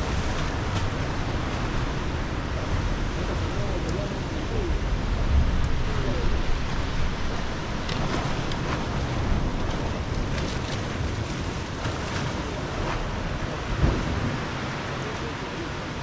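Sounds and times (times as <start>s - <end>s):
sea surf washing through rocks: 0.0s - 16.0s
wind buffeting microphone: 0.0s - 16.0s.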